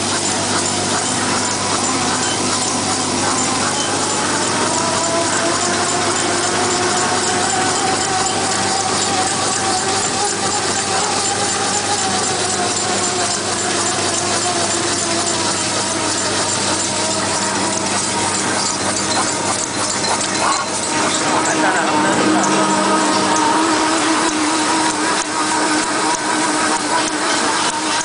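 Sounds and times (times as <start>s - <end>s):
paper towel machine running: 0.0s - 28.0s.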